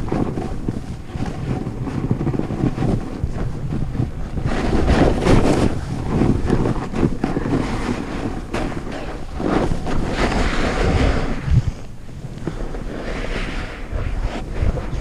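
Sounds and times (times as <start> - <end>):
skis scraping through snow: 0.0 - 15.0
wind buffeting microphone: 0.0 - 15.0.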